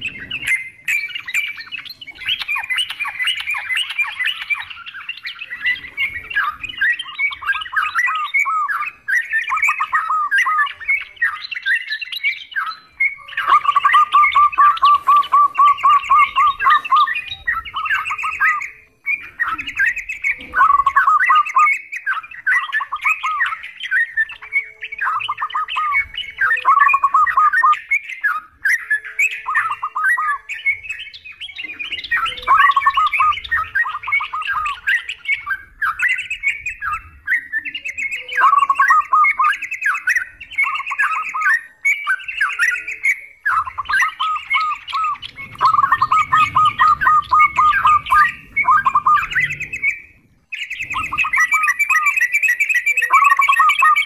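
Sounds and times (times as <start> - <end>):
bulbuls chattering: 0.0 - 54.0
fast bird trill: 0.0 - 54.0.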